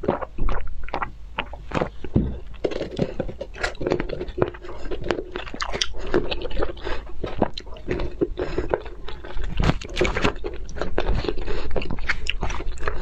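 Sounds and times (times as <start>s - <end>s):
wet chewing with smacks: 0.0s - 13.0s.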